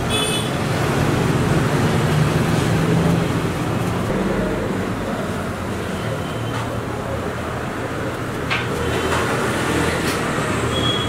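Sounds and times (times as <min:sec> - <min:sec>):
passing vehicle engines rumbling: 0:00.0 - 0:11.0.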